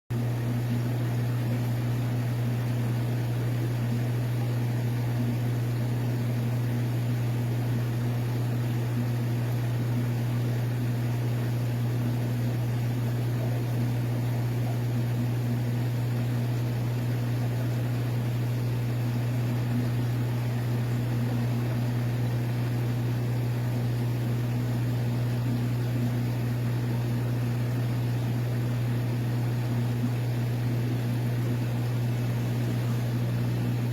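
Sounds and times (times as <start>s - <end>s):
aquarium pump humming: 0.1s - 33.9s.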